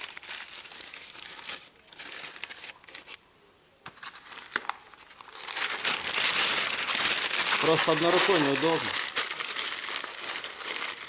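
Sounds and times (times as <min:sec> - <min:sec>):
newspaper being crumpled: 0:00.0 - 0:03.2, 0:04.0 - 0:11.0.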